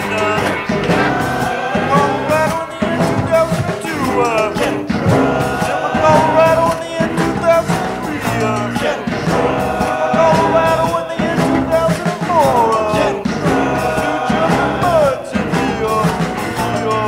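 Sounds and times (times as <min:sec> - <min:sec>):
instrumental rock band playing: 0:00.0 - 0:17.0.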